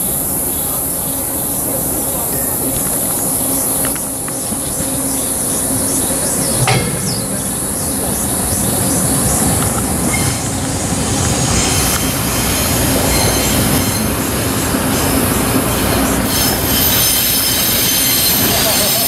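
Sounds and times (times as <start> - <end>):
train wheels rumbling on rails: 0.0 - 19.0
wheels squealing: 0.2 - 19.0.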